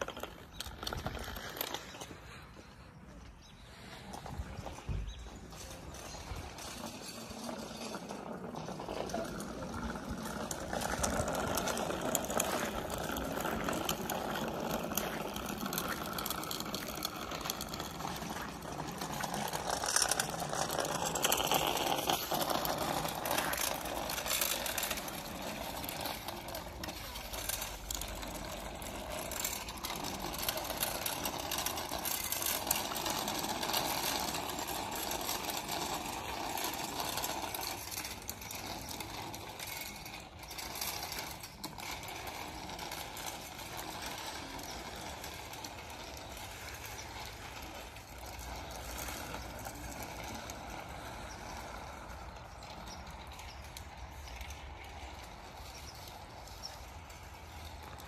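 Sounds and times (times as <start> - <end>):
bicycle tyres on wet asphalt: 0.0 - 58.0.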